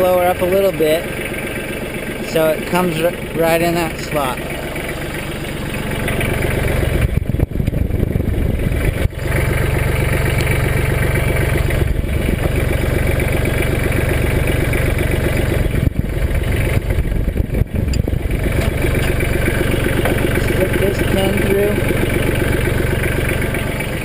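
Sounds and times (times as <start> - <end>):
hydraulics working: 0.0 - 24.0
tractor diesel engine running: 0.0 - 24.0.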